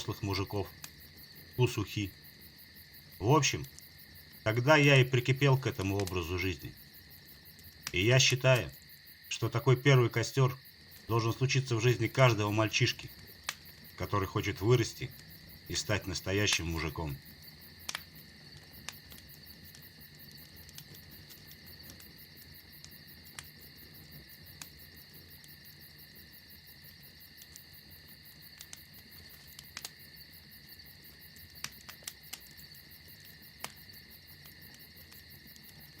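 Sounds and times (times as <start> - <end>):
campfire crackling: 0.0 - 36.0
crickets chirring: 0.0 - 36.0.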